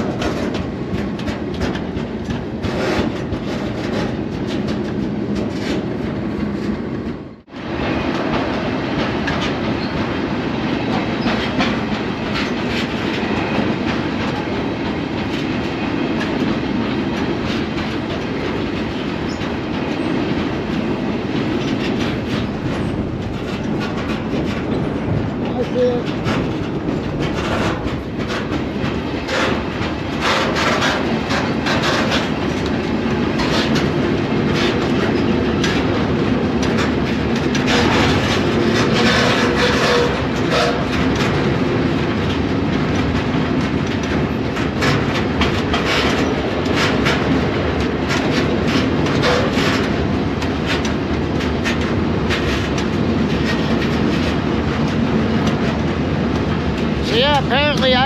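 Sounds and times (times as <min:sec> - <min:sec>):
freight train rumbling: 0:00.0 - 0:58.0
wheels clattering over rails: 0:00.0 - 0:58.0.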